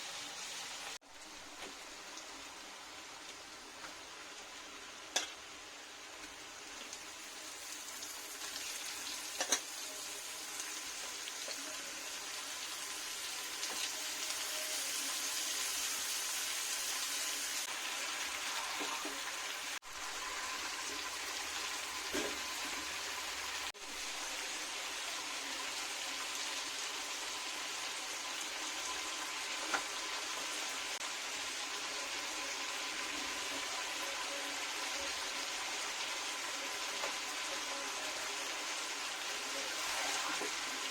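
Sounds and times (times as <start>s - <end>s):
food sizzling in hot oil: 0.0s - 40.9s.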